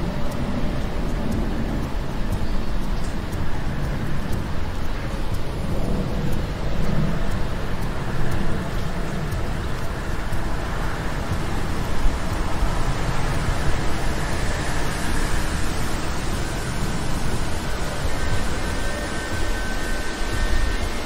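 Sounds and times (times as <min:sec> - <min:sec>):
rushing background noise: 0:00.0 - 0:21.0.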